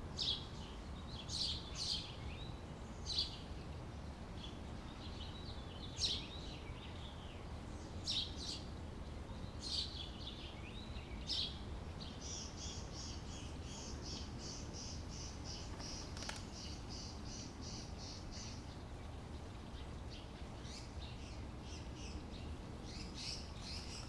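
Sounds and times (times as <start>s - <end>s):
low steady background noise: 0.0s - 24.0s
songbirds chirping and twittering: 0.0s - 24.0s.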